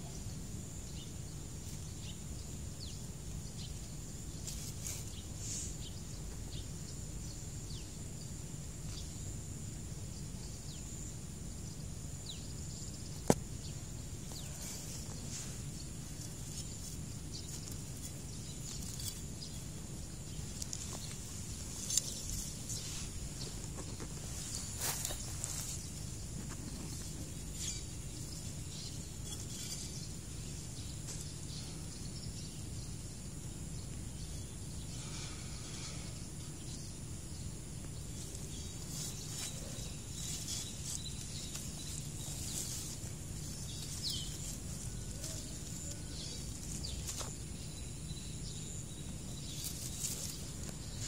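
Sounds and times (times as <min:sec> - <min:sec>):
high insect drone: 0:00.0 - 0:51.0
rustling leaves: 0:00.1 - 0:51.0.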